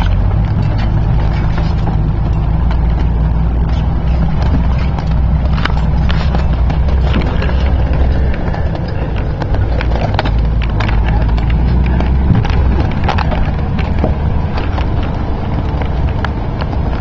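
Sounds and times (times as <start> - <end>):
engine low rumble: 0.0 - 17.0
knocks and rattles: 0.0 - 17.0.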